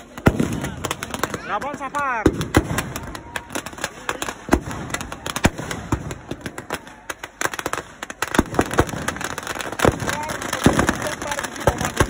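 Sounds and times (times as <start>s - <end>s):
firecrackers bursting: 0.0s - 12.0s.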